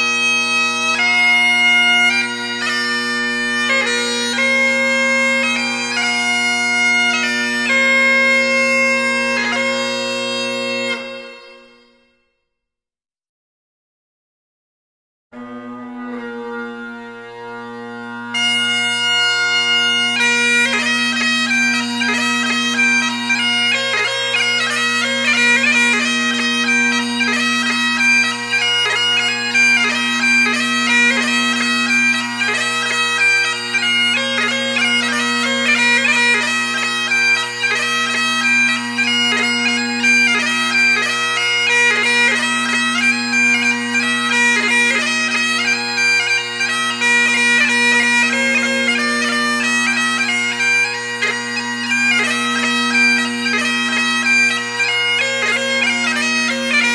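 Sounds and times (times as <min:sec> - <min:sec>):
bagpipe drones: 0:00.0 - 0:12.3, 0:15.4 - 0:56.9
bagpipe chanter tune: 0:00.0 - 0:12.4, 0:15.4 - 0:56.9.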